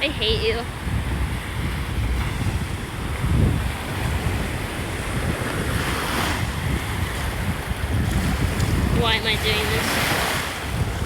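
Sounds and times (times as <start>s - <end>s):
ocean waves washing on shore: 0.0s - 11.0s
wind buffeting microphone: 0.0s - 11.0s.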